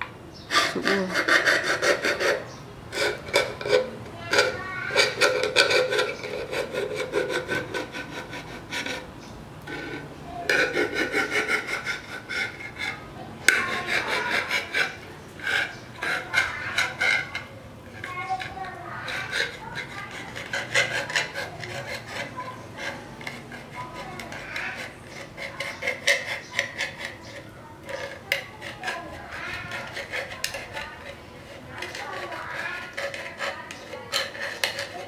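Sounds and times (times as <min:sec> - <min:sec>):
metal blade sawing through tin lid: 0:00.5 - 0:09.1, 0:09.7 - 0:35.0.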